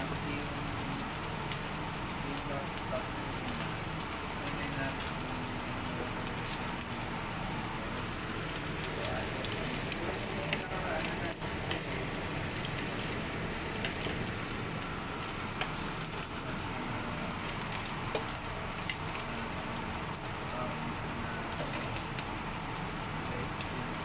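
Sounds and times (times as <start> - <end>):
steak sizzling in a pan: 0.0 - 24.0.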